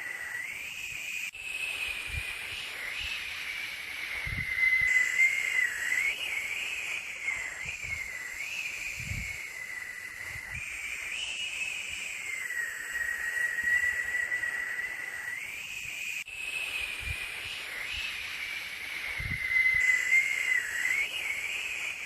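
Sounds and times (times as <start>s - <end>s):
hissing white noise: 0.0s - 22.0s
whistling tone drifting in pitch: 0.0s - 22.0s.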